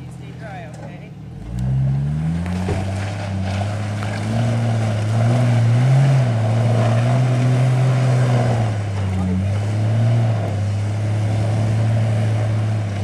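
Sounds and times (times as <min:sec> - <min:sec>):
jeep engine under load: 0:00.0 - 0:13.0.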